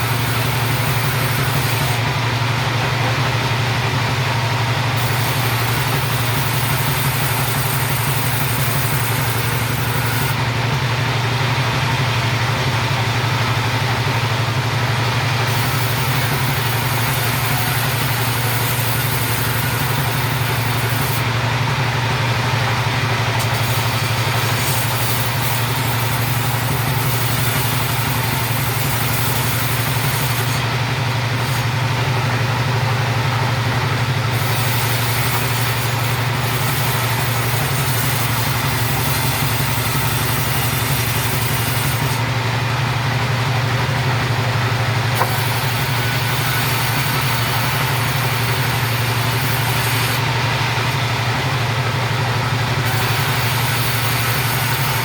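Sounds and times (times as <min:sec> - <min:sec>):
chainsaw running steadily: 0:00.0 - 0:55.0.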